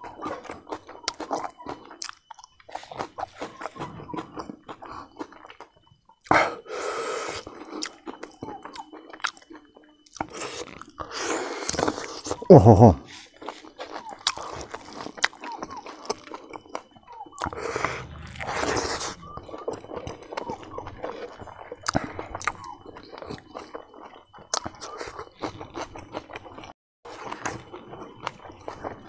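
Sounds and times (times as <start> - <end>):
man chewing and lip smacking: 0.0 - 6.4, 7.3 - 12.5, 13.1 - 29.0.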